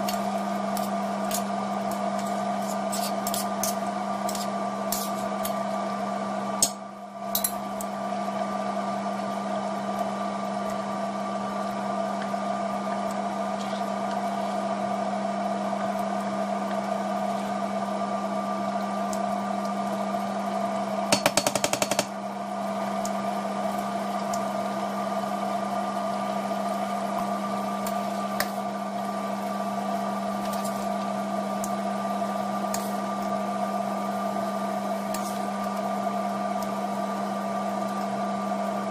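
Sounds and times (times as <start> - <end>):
kitchen fan motor humming: 0.0 - 38.9.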